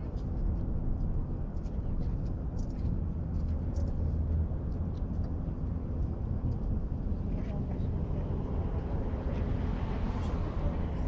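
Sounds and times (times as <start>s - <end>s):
distant motor traffic rumble: 0.0s - 11.0s.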